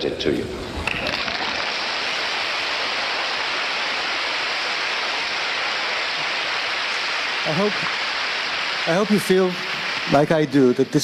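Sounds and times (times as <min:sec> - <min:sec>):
steady rushing noise: 0:00.4 - 0:11.0.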